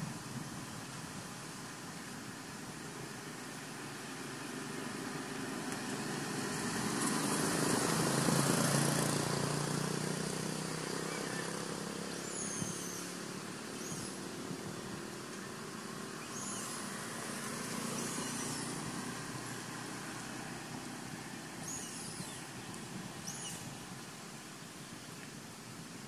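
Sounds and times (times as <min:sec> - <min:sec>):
vehicle passing by: 0:03.1 - 0:24.0.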